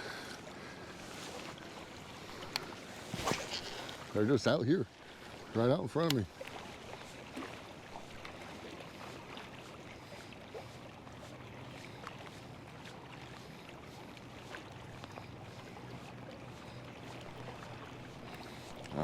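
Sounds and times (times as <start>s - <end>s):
river water: 0.0s - 19.0s.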